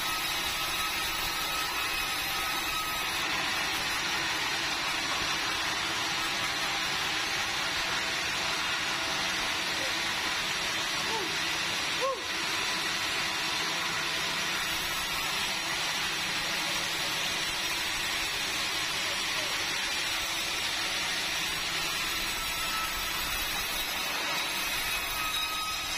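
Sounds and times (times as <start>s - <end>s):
band saw running: 0.0s - 25.9s.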